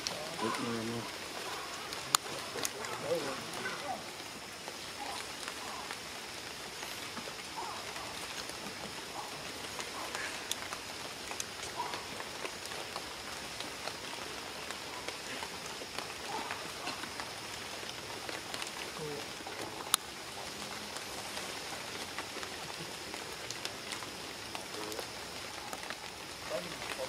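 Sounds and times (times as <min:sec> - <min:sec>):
light rain on stone and leaves: 0:00.0 - 0:27.0
raindrop ticks: 0:00.0 - 0:27.0.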